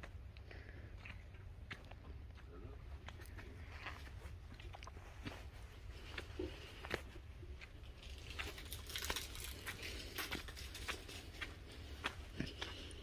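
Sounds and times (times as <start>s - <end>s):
footsteps on gravelly dirt: 0.0s - 13.0s.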